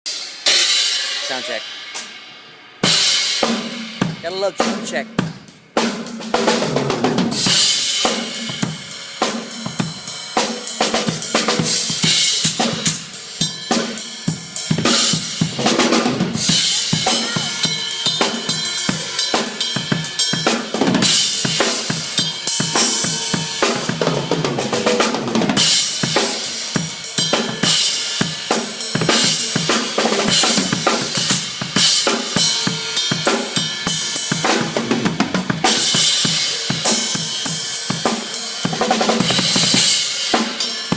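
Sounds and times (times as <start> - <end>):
cymbals: 0.1 - 40.9.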